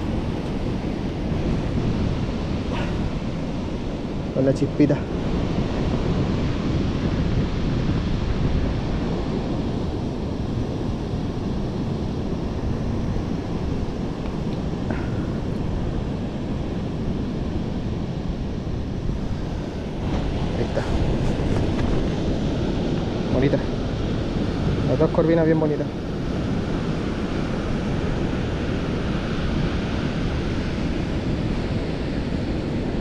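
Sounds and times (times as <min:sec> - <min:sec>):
surf washing on a beach: 0:00.0 - 0:33.0
wind blowing across microphone: 0:00.0 - 0:33.0.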